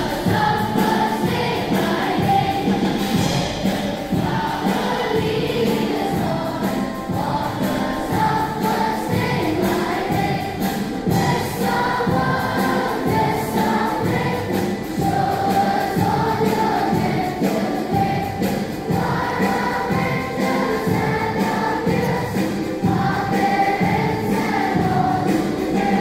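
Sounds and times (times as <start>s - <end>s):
children and adults singing: 0.0s - 26.0s.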